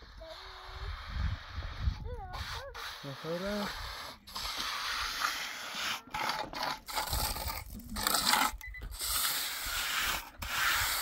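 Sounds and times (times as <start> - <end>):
trowel scraping mortar: 0.0 - 11.0.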